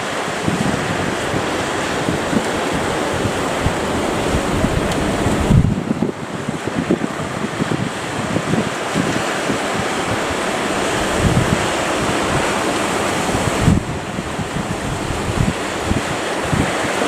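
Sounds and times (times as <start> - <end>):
sea waves rushing: 0.0 - 17.0
wind buffeting microphone: 0.0 - 17.0.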